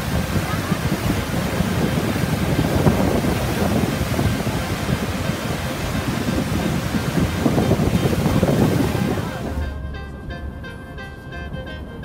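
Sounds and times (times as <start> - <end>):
waterfall rushing: 0.0 - 9.6
wind buffeting microphone: 0.0 - 9.8.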